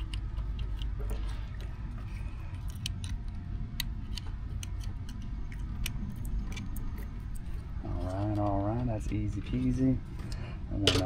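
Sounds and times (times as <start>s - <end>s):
wire connectors clicking: 0.0s - 1.8s, 2.5s - 11.0s
steady low hum: 0.0s - 11.0s.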